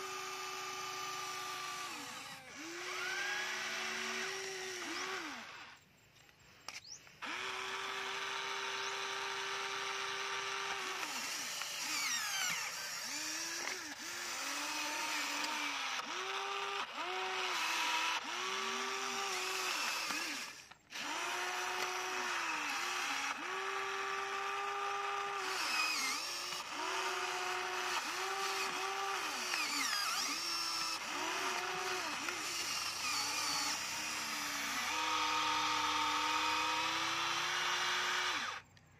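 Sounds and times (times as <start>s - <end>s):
toy excavator motors whining: 0.0s - 38.9s.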